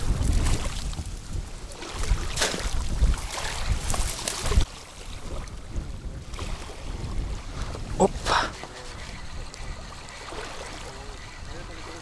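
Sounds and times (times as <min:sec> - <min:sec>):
small waves lapping shore: 0:00.0 - 0:12.0
wind gusting on microphone: 0:00.0 - 0:12.0.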